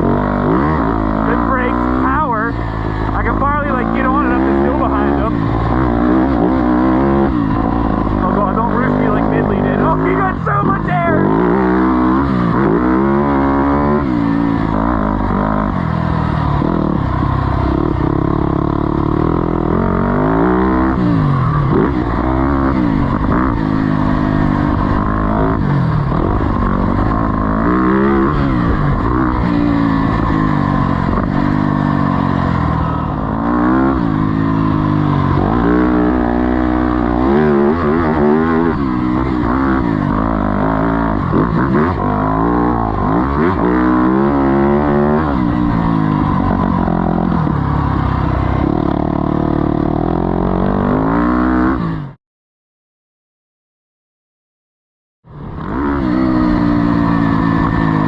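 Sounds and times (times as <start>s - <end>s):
motocross engines revving: 0.0s - 52.2s, 55.5s - 58.0s.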